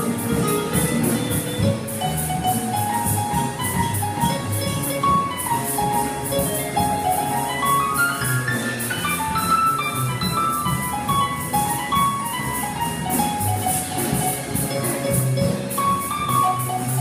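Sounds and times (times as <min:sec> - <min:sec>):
jazz big band playing: 0:00.0 - 0:17.0.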